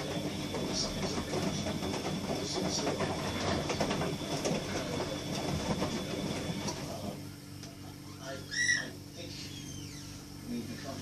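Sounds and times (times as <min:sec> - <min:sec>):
low washing machine hum: 0:00.0 - 0:11.0
washing machine rumbling clatter: 0:00.0 - 0:11.0.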